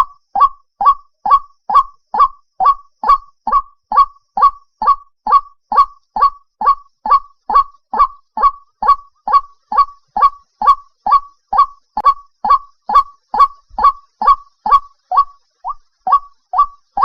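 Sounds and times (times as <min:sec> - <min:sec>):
bird calling repeated note: 0:00.0 - 0:17.0.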